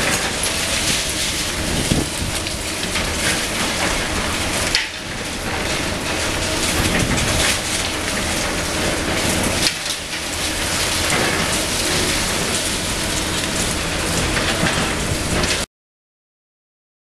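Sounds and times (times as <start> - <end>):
diesel engine running low: 0.0 - 15.7.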